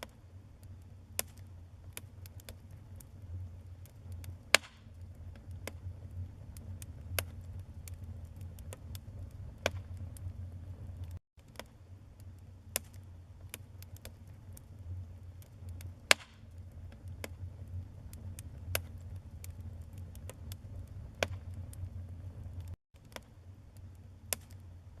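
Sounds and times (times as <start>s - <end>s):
low steady rumble: 0.0s - 25.0s
wood fire crackling: 0.0s - 25.0s.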